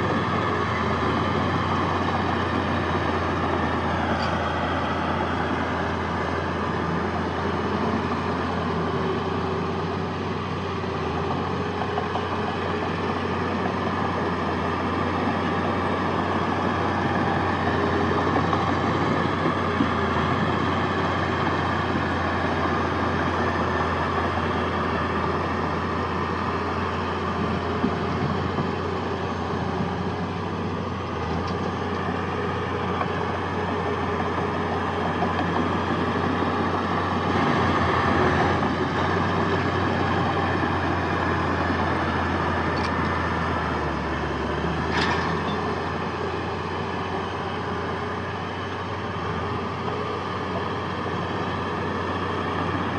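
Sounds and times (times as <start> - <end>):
heavy diesel machinery running: 0.0 - 52.9.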